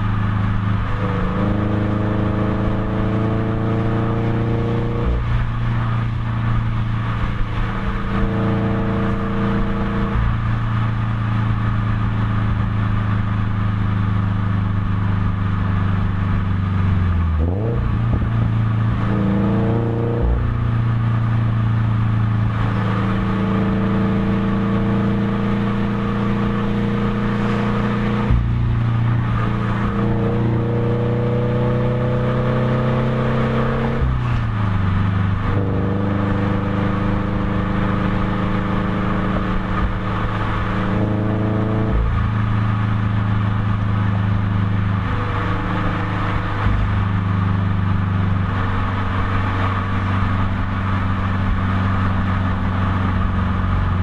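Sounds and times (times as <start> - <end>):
car exhaust note: 0.0 - 54.0.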